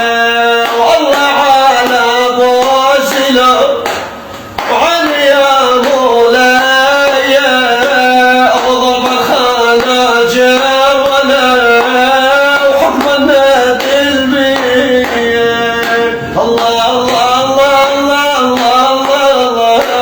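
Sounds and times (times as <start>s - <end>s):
man singing folk song: 0.0s - 4.0s, 4.6s - 20.0s.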